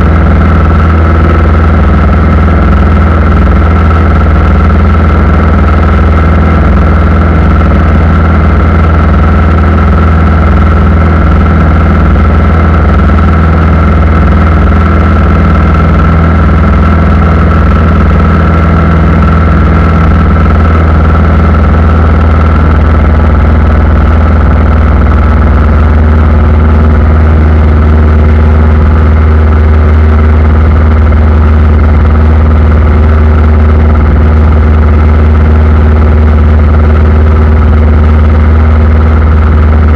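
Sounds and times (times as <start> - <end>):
aircraft engine drone: 0.0 - 39.9
high engine whine: 0.0 - 39.9.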